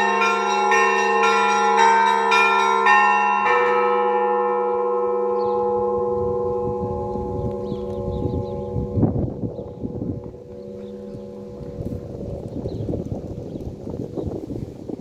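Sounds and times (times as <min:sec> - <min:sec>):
large bell humming: 0:00.0 - 0:14.7.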